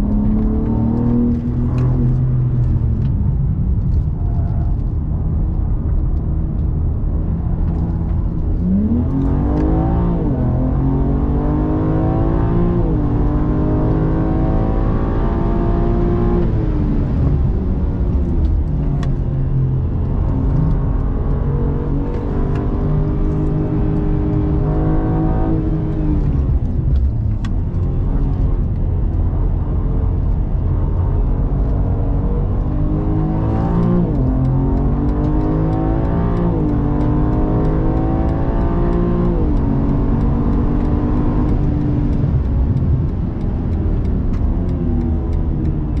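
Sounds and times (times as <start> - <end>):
car engine accelerating and shifting: 0.0 - 46.0
tyre and road noise: 0.0 - 46.0.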